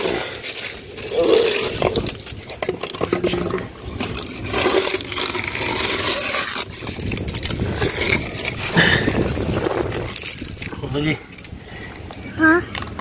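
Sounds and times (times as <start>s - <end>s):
dry leaves crunching and scraping: 0.0s - 11.4s
wind rumbling on microphone: 0.0s - 13.0s.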